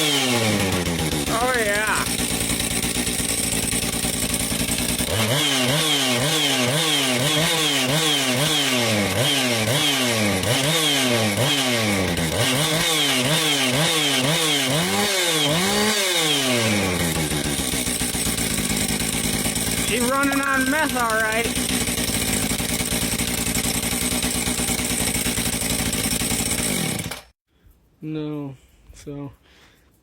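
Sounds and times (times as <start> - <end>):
chainsaw revving: 0.0 - 27.4.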